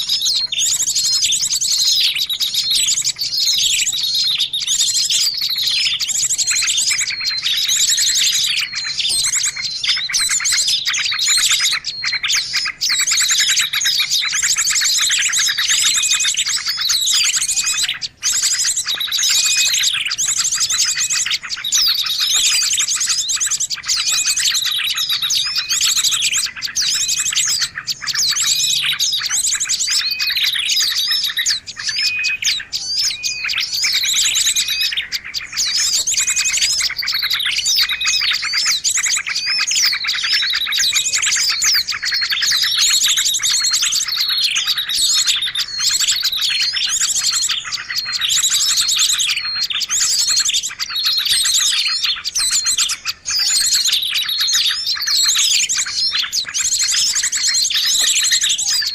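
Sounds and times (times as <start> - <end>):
many small birds chirping: 0.0 - 58.9.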